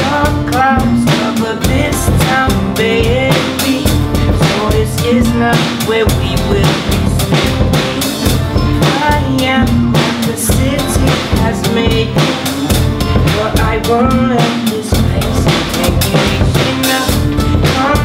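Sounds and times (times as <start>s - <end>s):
drum kit beat: 0.0s - 18.0s
electric and acoustic guitars: 0.0s - 18.0s.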